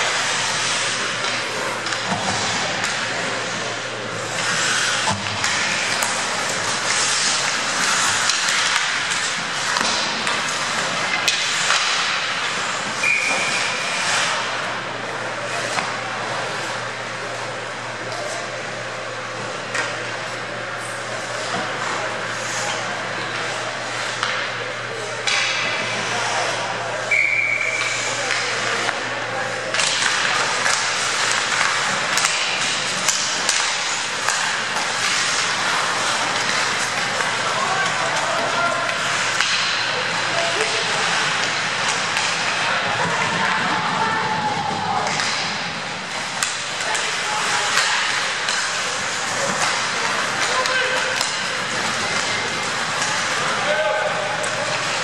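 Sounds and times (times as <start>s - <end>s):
hockey sticks and puck clacking: 0.0s - 55.0s
low rink hum: 0.0s - 55.0s
skates scraping on ice: 0.0s - 55.0s.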